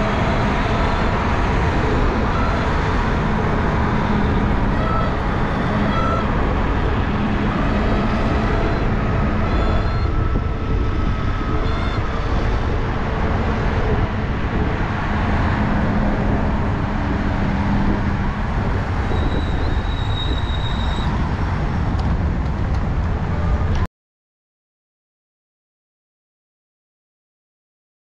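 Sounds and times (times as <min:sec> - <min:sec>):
wind buffeting microphone: 0:00.0 - 0:23.8
tyre and road noise: 0:00.0 - 0:23.9.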